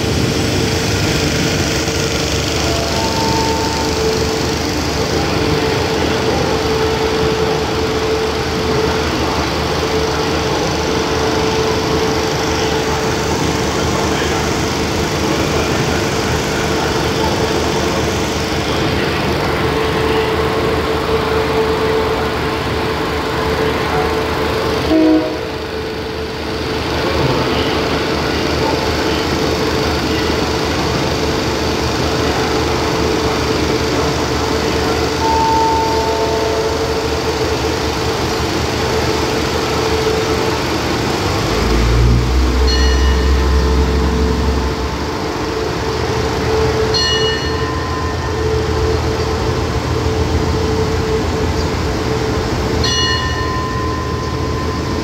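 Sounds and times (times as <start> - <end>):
train engines idling hum: 0.0 - 55.0.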